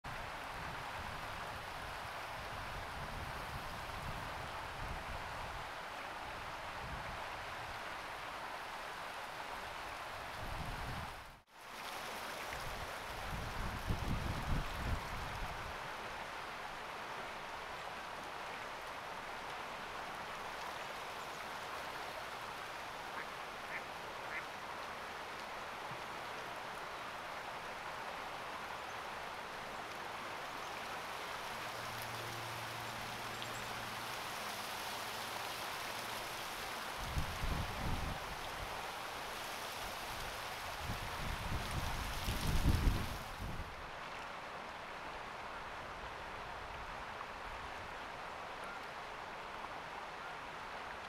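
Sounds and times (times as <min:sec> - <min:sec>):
steady outdoor hiss: 0:00.1 - 0:51.0.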